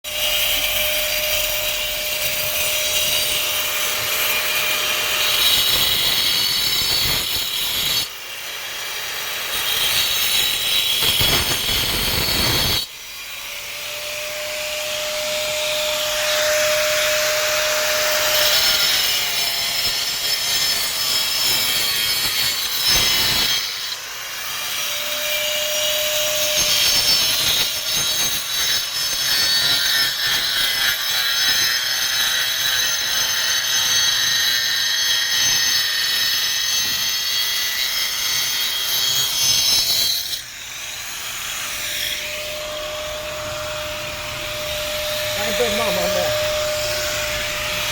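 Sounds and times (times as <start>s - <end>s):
power tool grinding mortar: 0.1s - 47.9s.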